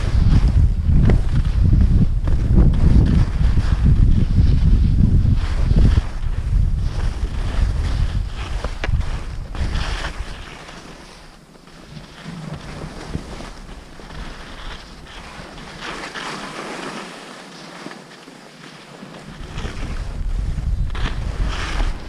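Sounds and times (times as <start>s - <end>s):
wind on microphone: 0.0s - 17.1s, 19.2s - 22.0s
ski edges scraping snow: 0.0s - 22.0s.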